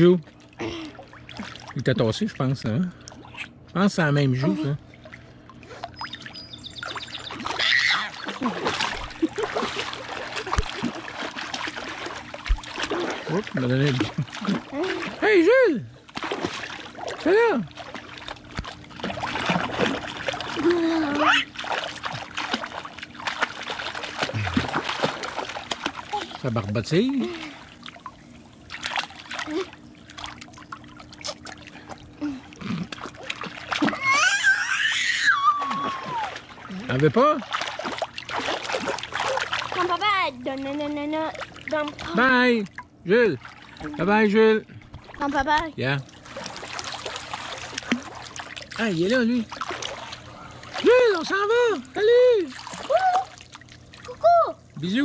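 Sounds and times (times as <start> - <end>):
faint steady hum: 0.0 - 55.0
baby slapping pool water: 0.2 - 1.9, 2.9 - 55.0.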